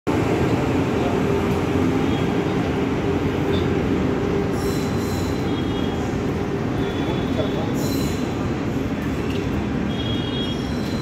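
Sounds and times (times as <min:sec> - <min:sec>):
train wheels rumbling on rails: 0:00.1 - 0:11.0.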